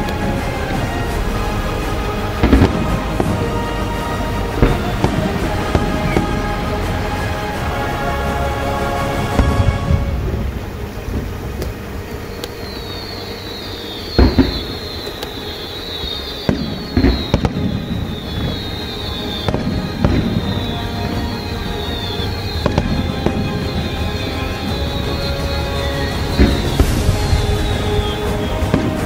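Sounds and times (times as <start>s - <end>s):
background music: 0.0s - 29.0s
firework shells bursting: 0.0s - 29.0s.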